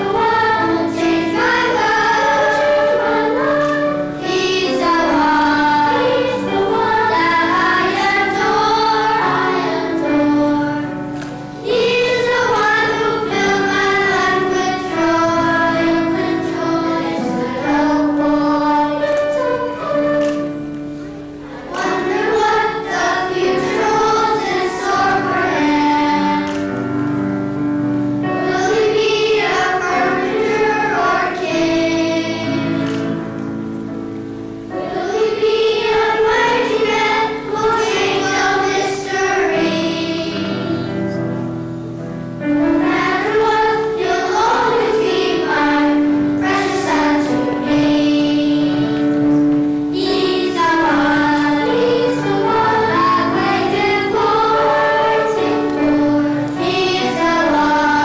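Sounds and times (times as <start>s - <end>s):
children's choir singing: 0.0s - 58.0s
sustained accompaniment: 0.0s - 58.0s.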